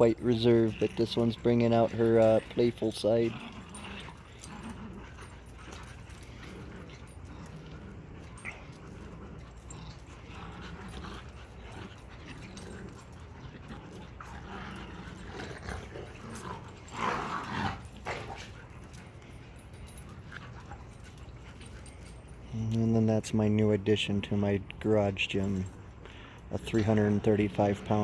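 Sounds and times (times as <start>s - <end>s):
dogs vocalizing while playing: 0.0s - 22.5s.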